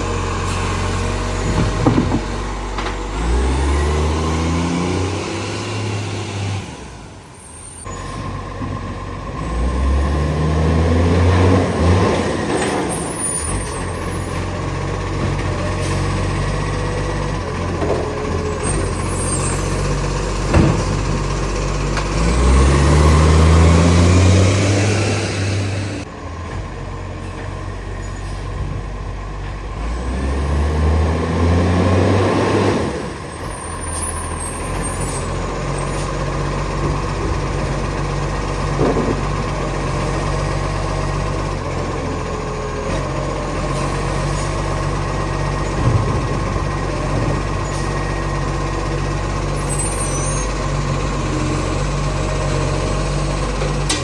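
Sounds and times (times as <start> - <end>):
diesel truck engine revving and idling: 0.0 - 54.0.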